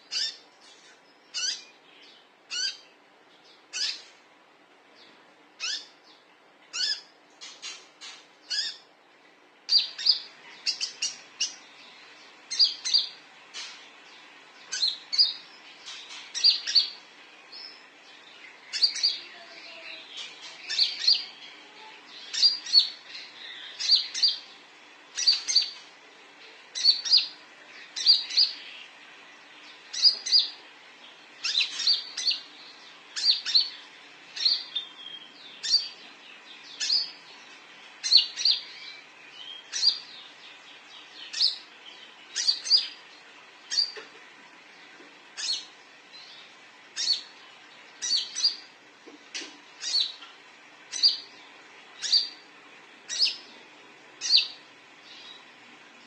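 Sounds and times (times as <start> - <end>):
sunbird high chirps: 0.0 - 4.2, 5.0 - 8.9, 9.7 - 25.9, 26.5 - 44.0, 44.7 - 53.6, 54.2 - 55.6.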